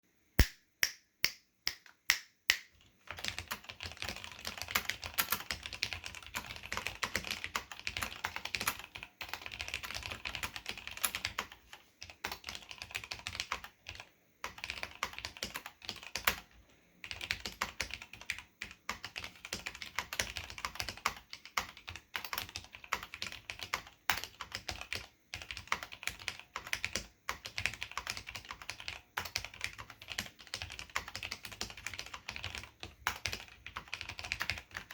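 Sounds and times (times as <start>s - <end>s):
mechanical keyboard typing: 2.7s - 34.9s.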